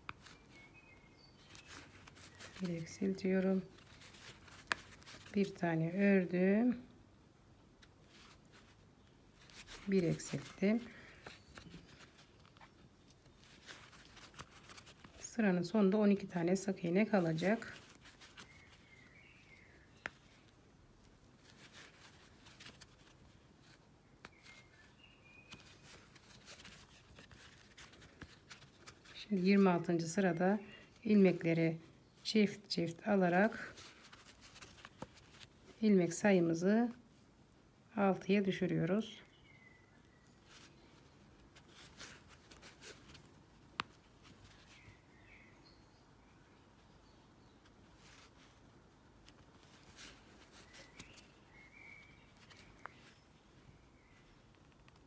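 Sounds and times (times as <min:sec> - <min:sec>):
yarn and crochet hook rustling: 0:00.0 - 0:55.0.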